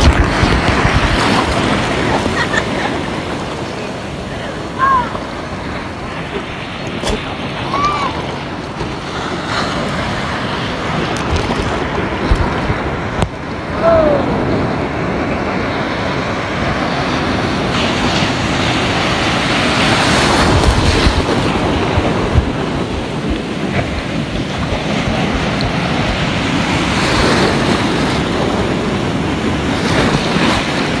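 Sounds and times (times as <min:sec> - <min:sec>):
waves breaking: 0:00.0 - 0:31.0
wind buffeting microphone: 0:00.0 - 0:31.0.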